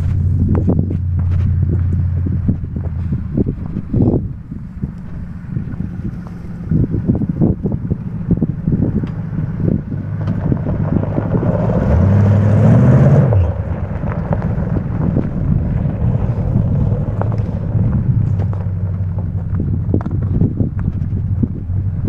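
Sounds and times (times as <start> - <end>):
truck engine driving by: 0.0 - 22.0
tyres on dirt and gravel: 0.0 - 22.0.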